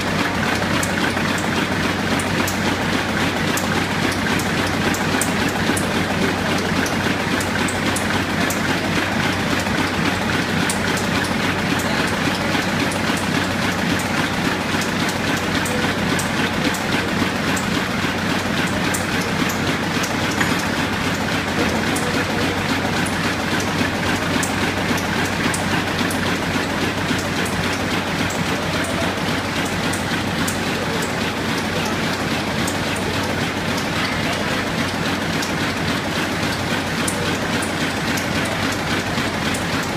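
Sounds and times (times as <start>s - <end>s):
low machine hum: 0.0s - 39.9s
machine belts and rollers clattering: 0.0s - 39.9s
sheets ticking on conveyor: 0.0s - 39.9s.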